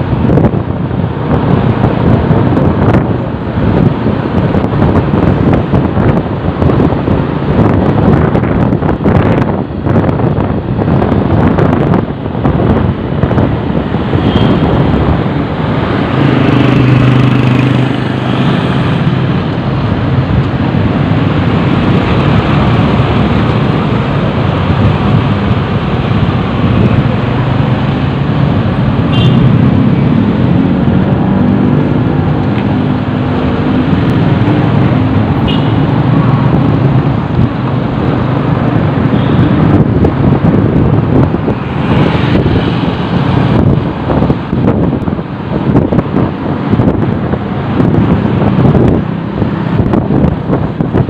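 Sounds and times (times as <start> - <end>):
low engine hum of passing vehicles: 0.0 - 51.0
road traffic rush: 0.0 - 51.0.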